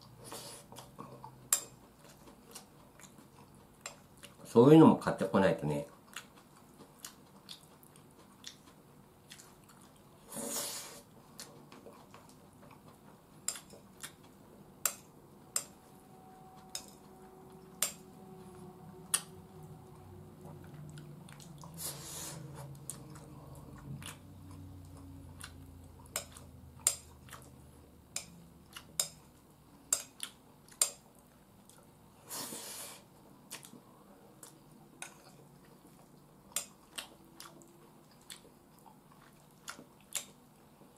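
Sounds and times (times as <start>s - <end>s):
person chewing: 0.0s - 4.5s, 5.9s - 40.9s.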